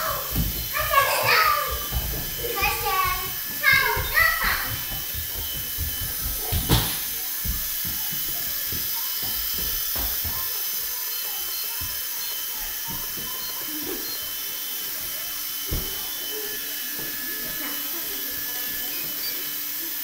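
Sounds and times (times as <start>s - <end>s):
rc helicopter rotor whine: 0.0s - 20.0s.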